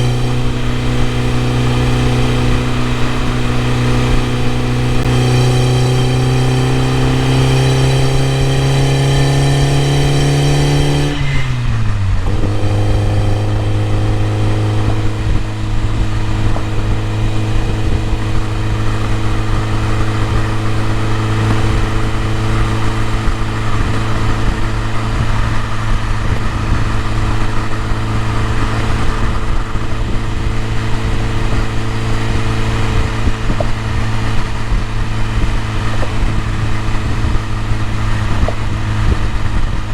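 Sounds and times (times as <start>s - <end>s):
car engine pulling under load: 0.0s - 39.9s.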